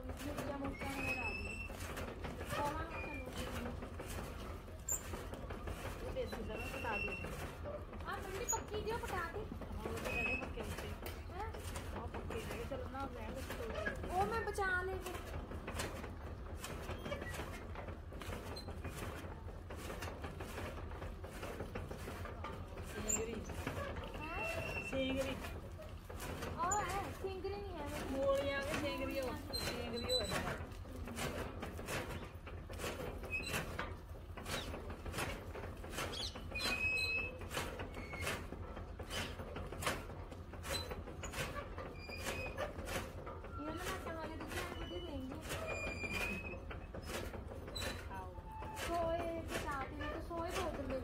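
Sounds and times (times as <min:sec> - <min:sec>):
chaff cutter clicking and rattling: 0:00.0 - 0:51.0
machine creaking: 0:00.0 - 0:51.0.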